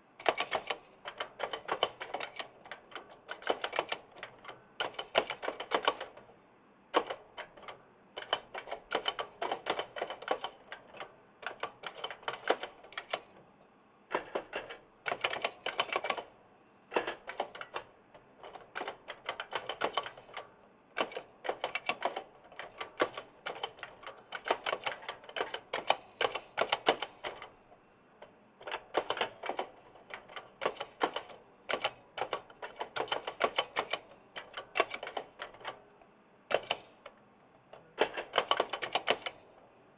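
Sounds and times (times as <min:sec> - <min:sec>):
clicky mechanical keyboard typing: 0:00.2 - 0:06.3, 0:06.9 - 0:13.4, 0:14.1 - 0:16.3, 0:16.9 - 0:27.6, 0:28.6 - 0:35.8, 0:36.5 - 0:37.2, 0:38.0 - 0:39.4.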